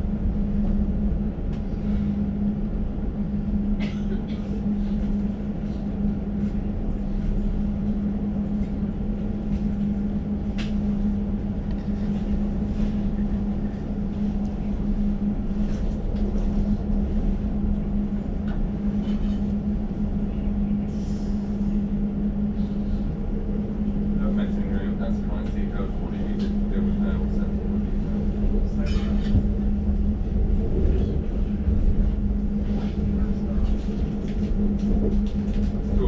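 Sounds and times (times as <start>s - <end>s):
low hum: 0.0s - 36.0s
train wheel and track rumble: 0.0s - 36.0s.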